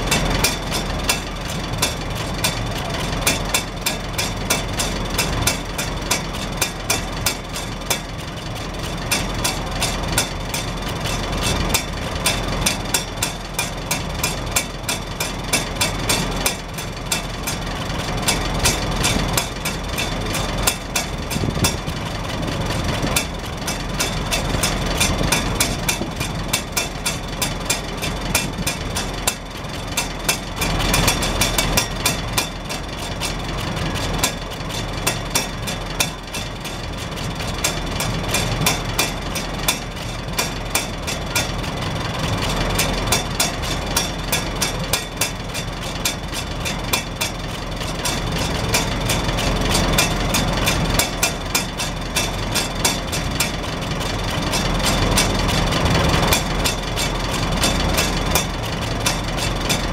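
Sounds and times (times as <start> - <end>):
rapid clicks of exhaust flapper: 0.0 - 59.9
tractor engine idling: 0.0 - 59.9.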